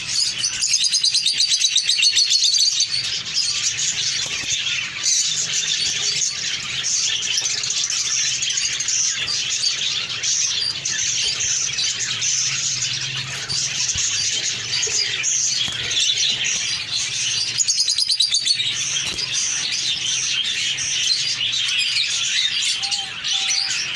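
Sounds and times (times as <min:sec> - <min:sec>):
loud rapid bird trill: 0:00.0 - 0:23.9
parrots chirping and chattering: 0:00.0 - 0:23.9.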